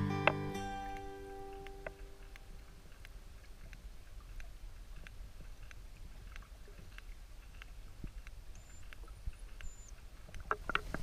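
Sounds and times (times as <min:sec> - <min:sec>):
sperm whale clicks: 0:00.2 - 0:11.0.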